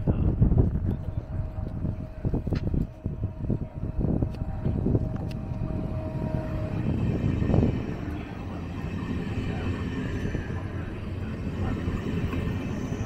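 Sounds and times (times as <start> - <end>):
train rumbling on tracks: 0.0 - 13.0.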